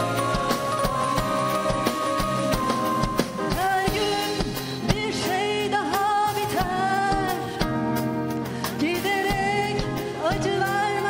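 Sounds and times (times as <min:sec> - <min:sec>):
live pop band playing: 0:00.0 - 0:11.0
woman singing into microphone: 0:00.0 - 0:11.0.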